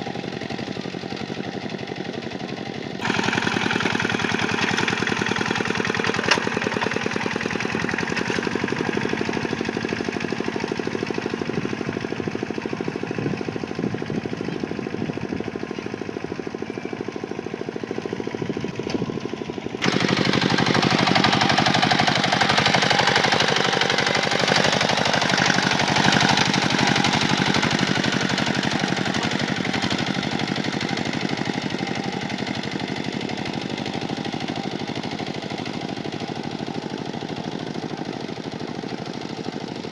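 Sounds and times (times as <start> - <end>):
tractor diesel engine knocking: 0.0 - 39.9.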